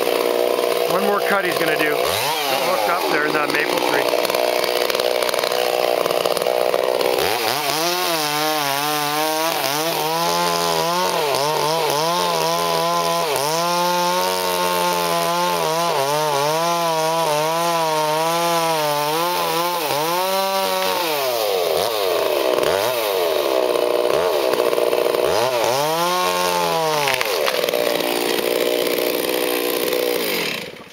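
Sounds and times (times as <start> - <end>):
chainsaw cutting: 0.0 - 30.9.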